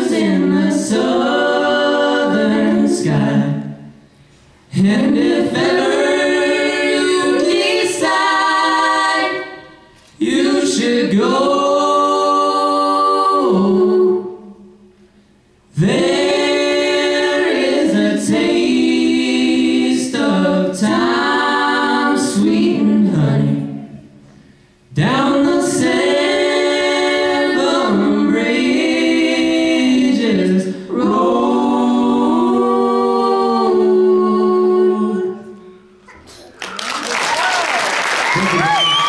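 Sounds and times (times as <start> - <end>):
a cappella harmony singing: 0.0 - 36.0.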